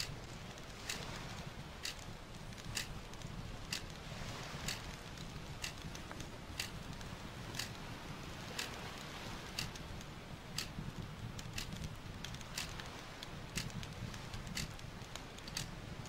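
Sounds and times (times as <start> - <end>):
sharp ticks: 0.0 - 4.0, 4.6 - 7.8, 8.4 - 10.8, 11.4 - 16.0
wood fire crackling: 0.0 - 16.0.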